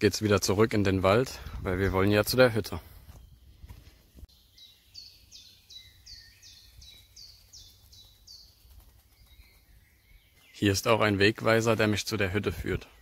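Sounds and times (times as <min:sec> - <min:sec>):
songbird singing faintly: 0:00.0 - 0:13.0.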